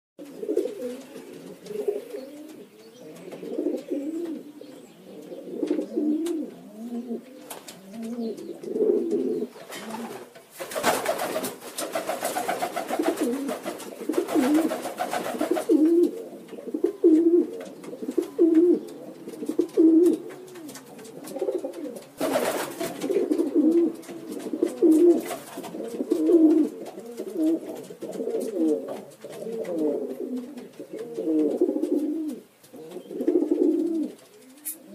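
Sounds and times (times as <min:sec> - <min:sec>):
pigeons cooing: 0:00.2 - 0:34.9.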